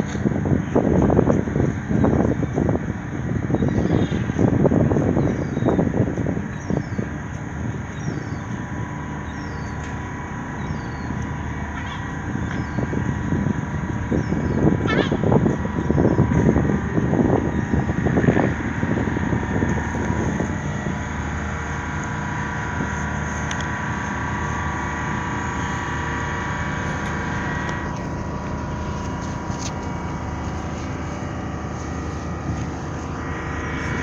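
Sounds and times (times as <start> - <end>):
steady engine drone: 0.0 - 34.0.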